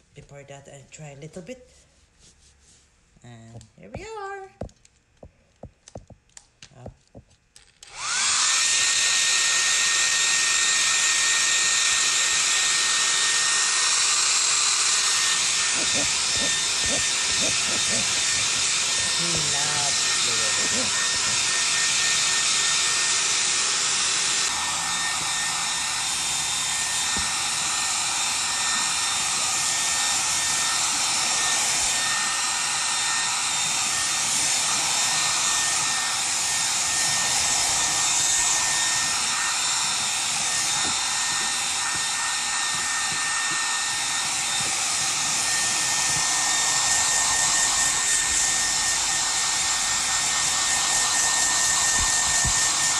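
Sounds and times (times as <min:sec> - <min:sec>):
hair dryer running: 0:05.2 - 0:52.9.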